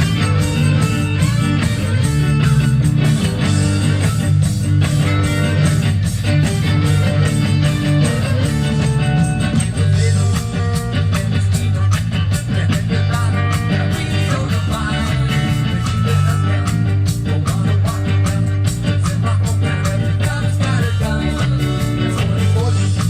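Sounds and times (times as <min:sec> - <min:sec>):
guitar: 0:00.0 - 0:23.0
heavy bassline: 0:00.0 - 0:23.0
steady drum beat: 0:00.0 - 0:23.0.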